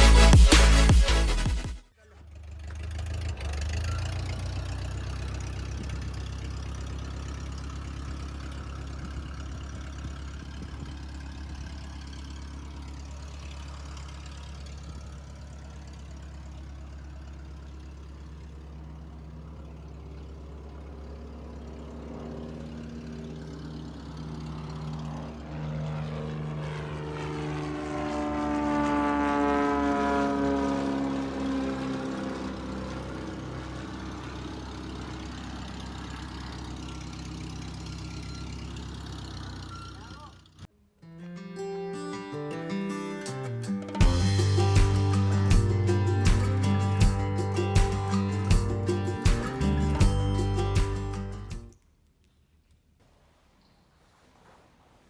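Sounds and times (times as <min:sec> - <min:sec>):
propeller plane droning: 0:02.6 - 0:39.7, 0:44.0 - 0:51.6.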